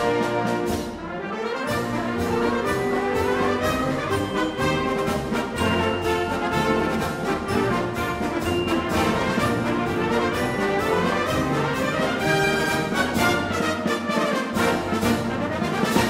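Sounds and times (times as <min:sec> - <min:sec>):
military band playing a march: 0:00.0 - 0:16.0.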